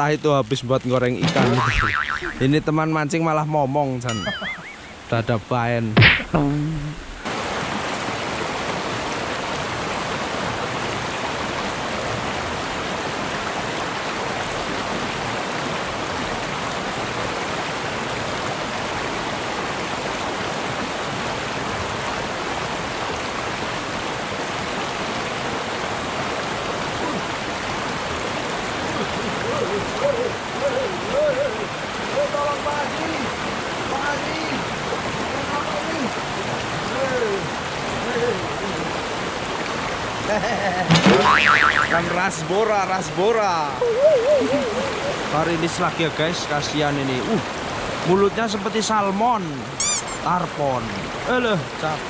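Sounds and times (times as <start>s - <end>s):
stream rushing over rocks: 4.0s - 52.0s.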